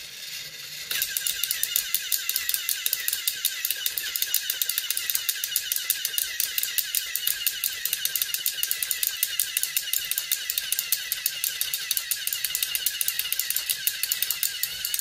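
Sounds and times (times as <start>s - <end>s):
toy train motor clicking: 0.0s - 15.0s.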